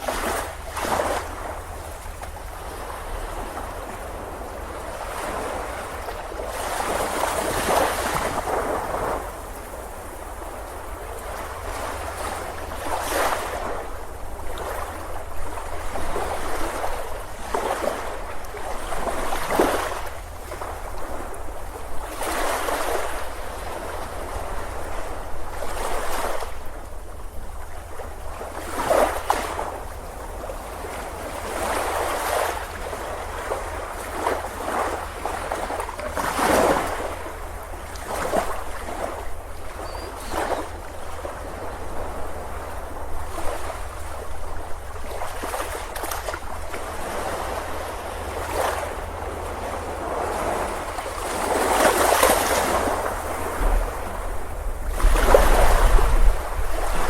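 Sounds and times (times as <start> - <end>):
ocean waves breaking: 0.0 - 57.0
surf hiss: 0.0 - 57.0.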